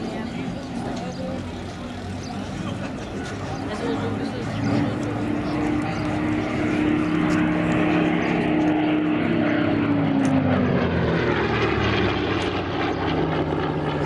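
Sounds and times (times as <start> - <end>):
propeller plane engine: 0.0 - 14.0.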